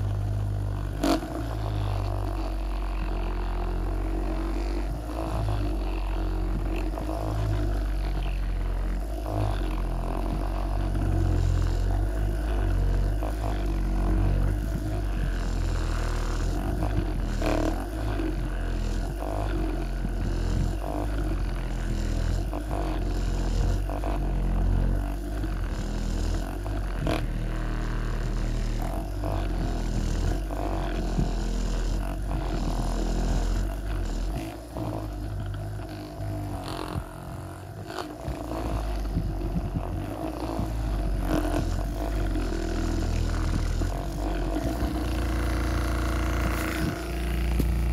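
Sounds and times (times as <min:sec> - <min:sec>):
massage gun motor drone: 0:00.0 - 0:47.9.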